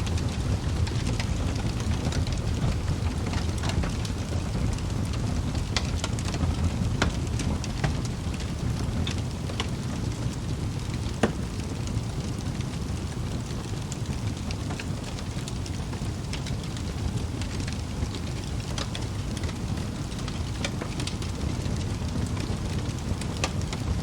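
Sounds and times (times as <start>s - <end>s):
fire low rumble: 0.0s - 24.0s
logs crackling and popping: 0.0s - 24.0s.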